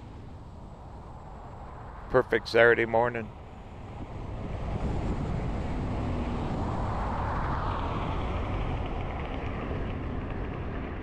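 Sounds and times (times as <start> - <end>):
van road and engine rumble: 0.0 - 11.0.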